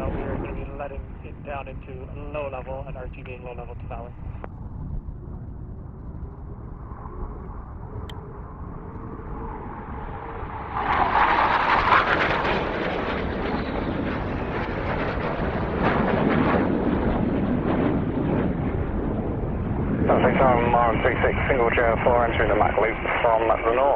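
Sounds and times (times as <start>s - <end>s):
military jet passing: 0.0s - 23.9s.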